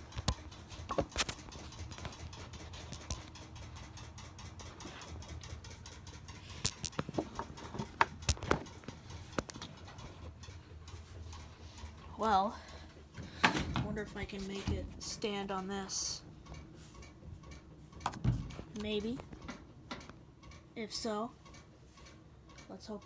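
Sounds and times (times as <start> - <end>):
washing machine hum: 0.0 - 23.0.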